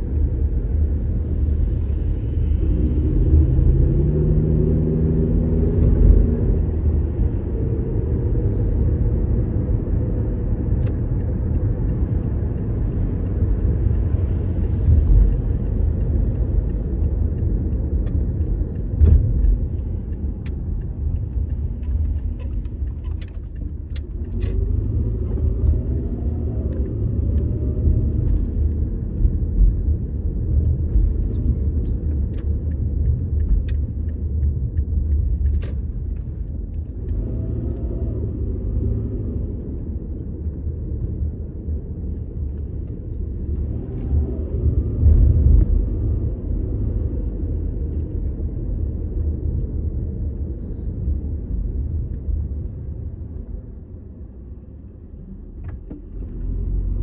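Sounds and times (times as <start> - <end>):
road and engine rumble in car: 0.0 - 57.0.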